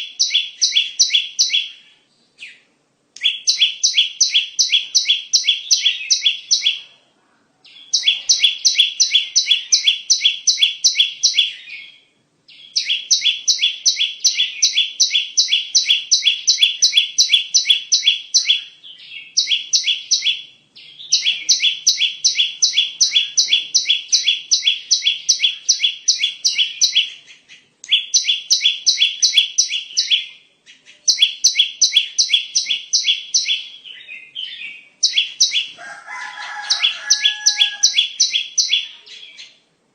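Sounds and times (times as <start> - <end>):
bird chirping rapidly: 0.0 - 2.6, 3.2 - 6.9, 7.7 - 39.6.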